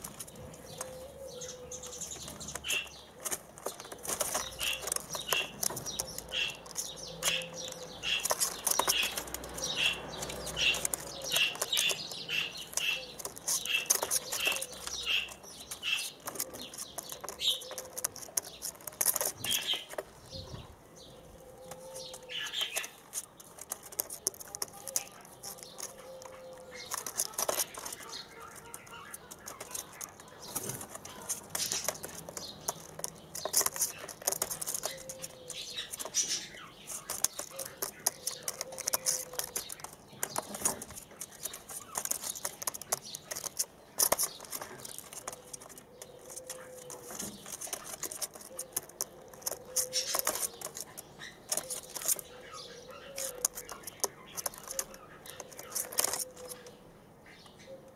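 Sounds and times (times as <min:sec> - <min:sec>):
doves moving in a wire cage: 0:00.0 - 0:57.9.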